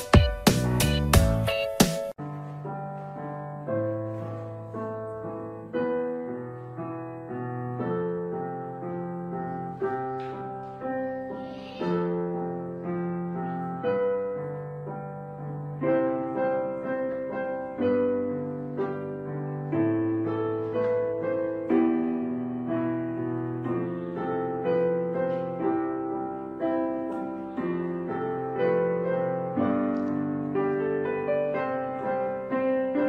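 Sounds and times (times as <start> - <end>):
slow piano chords: 0.0 - 33.0.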